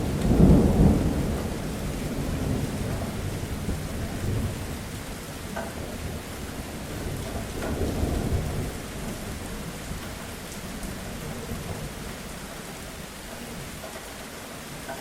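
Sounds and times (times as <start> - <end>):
thunder rolling: 0.0 - 13.8
heavy rain: 0.0 - 15.0.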